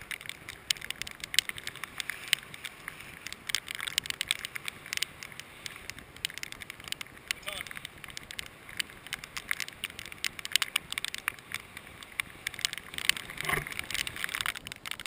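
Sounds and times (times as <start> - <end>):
raindrops hitting camera housing: 0.0 - 15.0.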